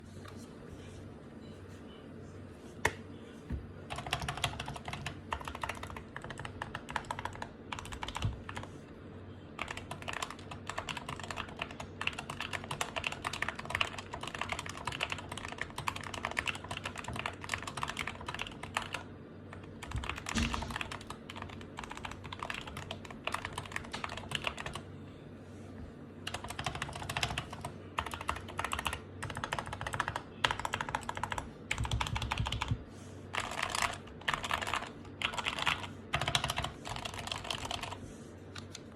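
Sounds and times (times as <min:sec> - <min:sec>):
keyboard typing: 0:03.9 - 0:08.7, 0:09.6 - 0:24.8, 0:26.2 - 0:38.9.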